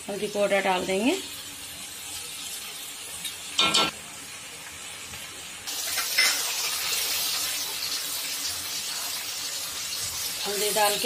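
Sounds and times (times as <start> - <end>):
sizzling in hot oil: 0.0 - 11.0.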